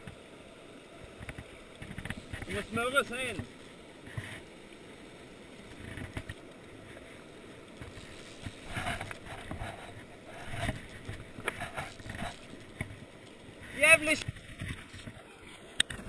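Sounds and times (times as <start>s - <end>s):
river rushing over rapids: 0.0s - 16.0s
rustle and handling noise: 1.0s - 16.0s.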